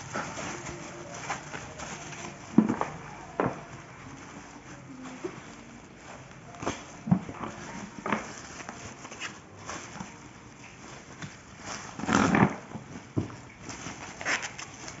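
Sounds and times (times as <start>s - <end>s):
bubble wrap crinkling and rustling: 0.0s - 15.0s.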